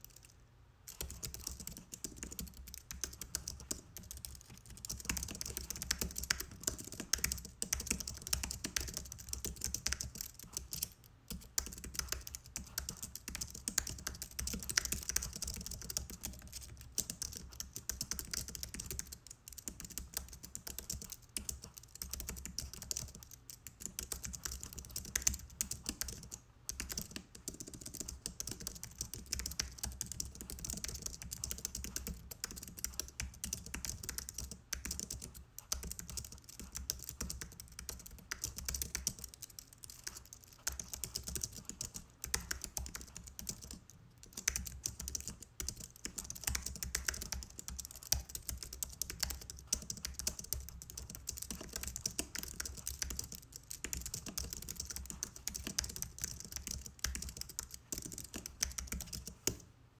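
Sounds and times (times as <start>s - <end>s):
keyboard typing clicks: 0.9s - 59.6s.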